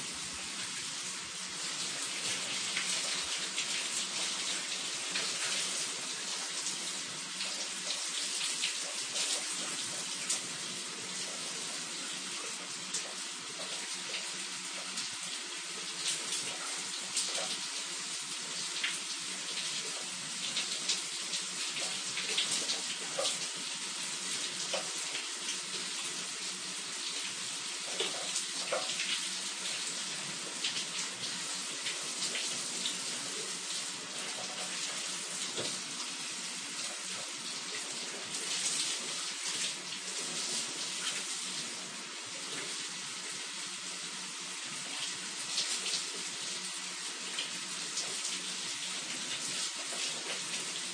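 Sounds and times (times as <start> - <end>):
shower running: 0.0 - 50.9.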